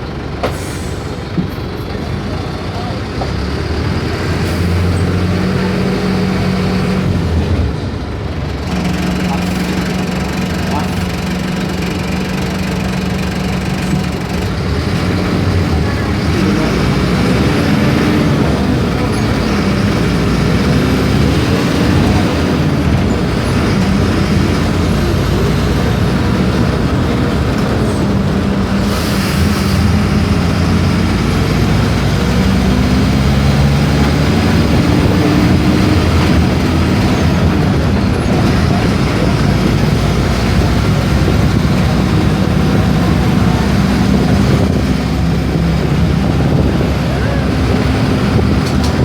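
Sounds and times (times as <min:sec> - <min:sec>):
diesel bus engine running: 0:00.0 - 0:49.0.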